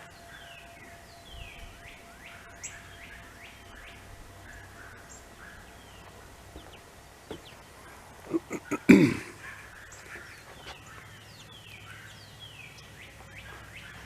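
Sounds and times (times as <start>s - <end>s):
birds singing: 0.0s - 14.0s
faint steady tone: 0.0s - 14.0s.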